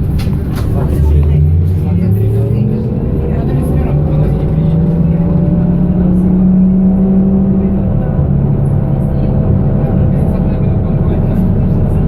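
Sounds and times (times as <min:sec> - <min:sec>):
road and running noise: 0:00.0 - 0:12.0.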